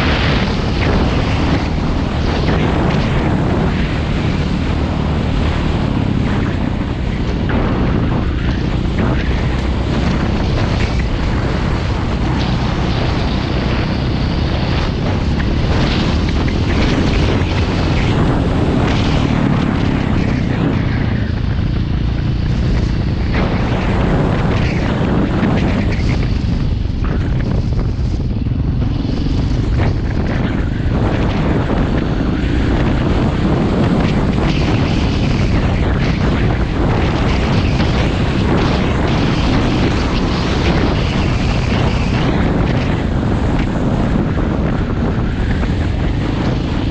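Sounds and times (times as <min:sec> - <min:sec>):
dirt motorcycle engine running: 0:00.0 - 0:46.9
wind buffeting on microphone: 0:00.0 - 0:46.9.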